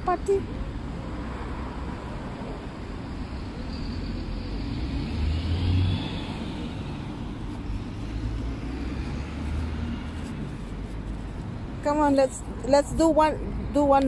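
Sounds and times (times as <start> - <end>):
cars passing on road: 0.0 - 14.0.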